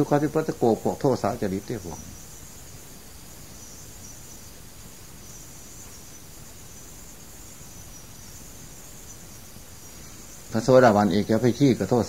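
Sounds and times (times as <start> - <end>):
background hiss: 0.0 - 12.0
insects chirring: 0.0 - 12.0.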